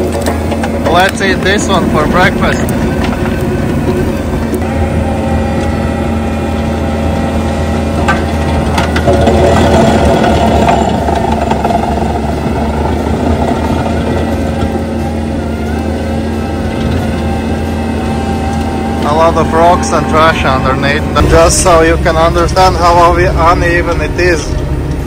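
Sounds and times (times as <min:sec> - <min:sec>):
diesel engine under load: 0:00.0 - 0:25.0
stump grinder grinding: 0:00.0 - 0:25.0.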